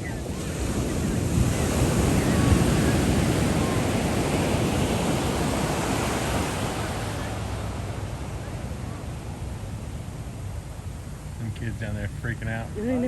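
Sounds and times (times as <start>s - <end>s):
wind on microphone: 0.0s - 11.1s
sea: 0.0s - 13.0s.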